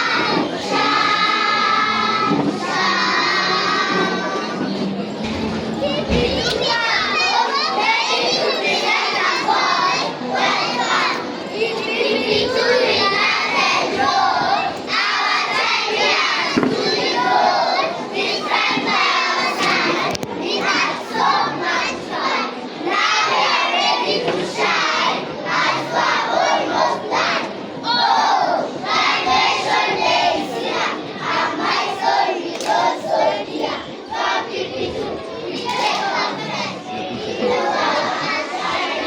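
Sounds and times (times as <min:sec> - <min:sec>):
children shouting and chattering: 0:00.0 - 0:39.0.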